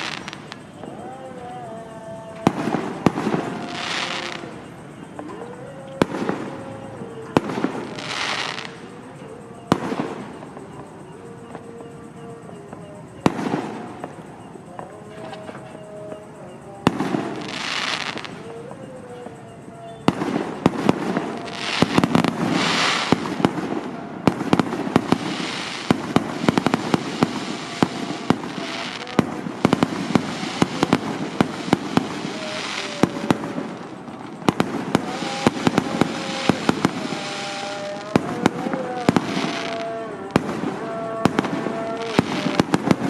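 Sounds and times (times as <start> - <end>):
fireworks bangs and crackles: 0.0 - 43.0
person chanting: 0.0 - 43.0.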